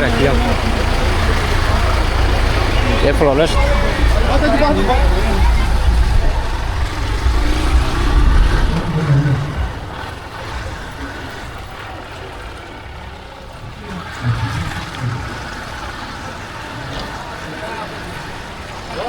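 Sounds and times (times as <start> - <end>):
street noise: 0.0 - 19.0
vehicle engine rumble: 0.0 - 19.0.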